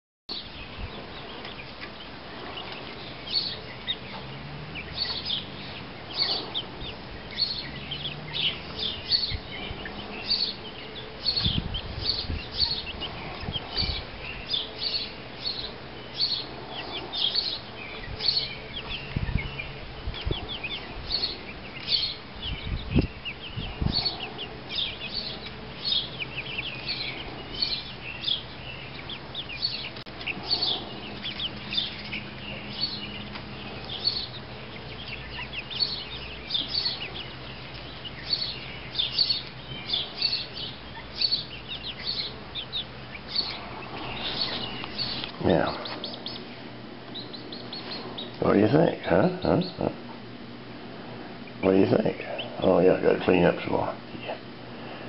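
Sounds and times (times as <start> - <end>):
chick peeping: 0.3 - 55.0.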